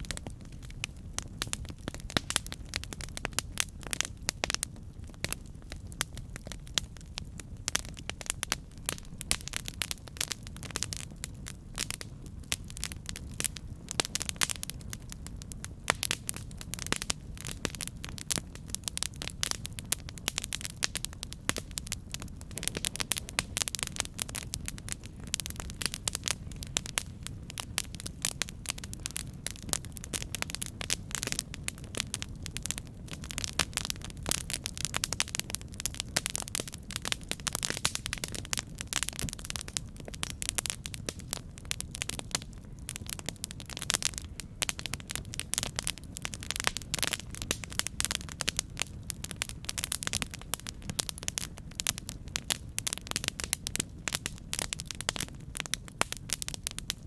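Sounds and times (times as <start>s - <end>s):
campfire wood crackling: 0.0s - 57.0s
low fire rumble: 0.0s - 57.0s.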